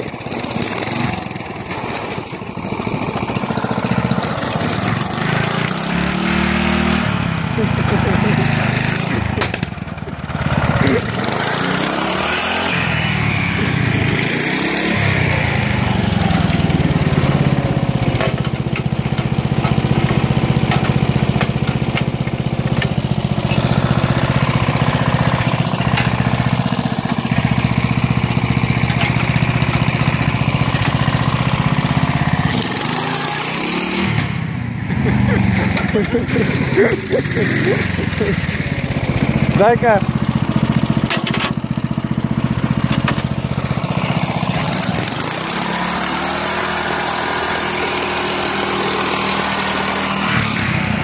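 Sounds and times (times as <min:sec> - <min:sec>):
lawn tractor engine under load: 0:00.0 - 0:51.0.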